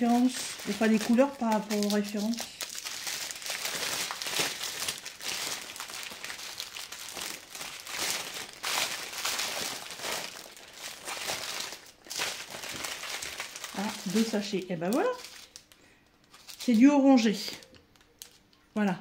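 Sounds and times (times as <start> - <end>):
plastic bags crinkling: 0.0 - 18.5.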